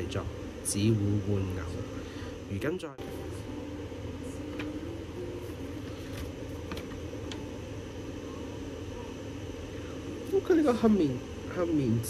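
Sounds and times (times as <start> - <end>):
air purifier fan whirring: 0.0 - 12.0.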